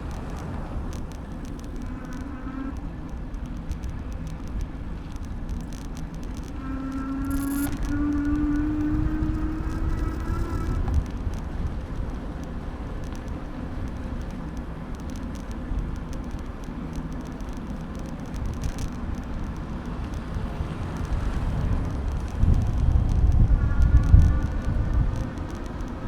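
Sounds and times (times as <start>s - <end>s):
city street traffic: 0.0s - 26.0s
wind rumble on microphone: 0.0s - 26.0s.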